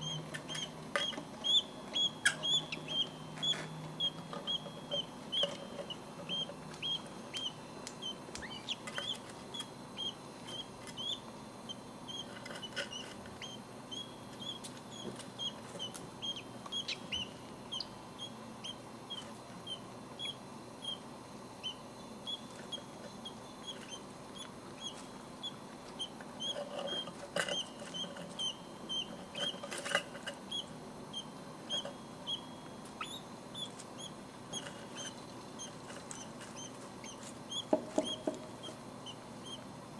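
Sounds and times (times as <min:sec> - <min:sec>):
chicks peeping: 0:00.0 - 0:21.0, 0:21.6 - 0:24.0, 0:24.8 - 0:39.6.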